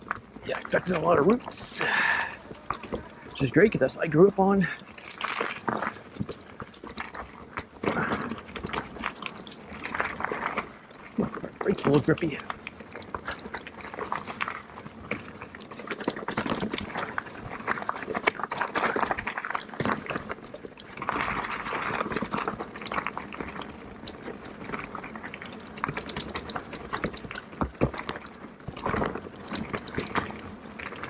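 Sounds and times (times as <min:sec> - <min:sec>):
bike rattling over roots: 0:00.0 - 0:31.0
bike tyres on dirt trail: 0:00.0 - 0:31.0.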